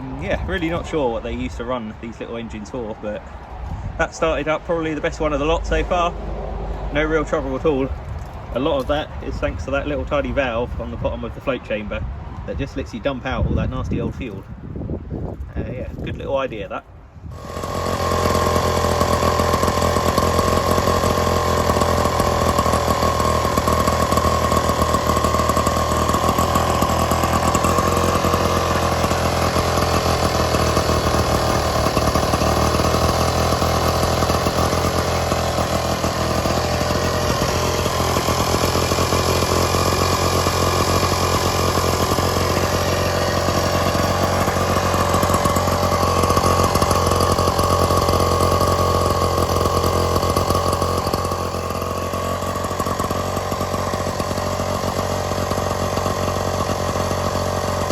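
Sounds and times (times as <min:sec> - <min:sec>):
small two-stroke engine running: 0:00.0 - 0:11.8, 0:15.6 - 0:57.9.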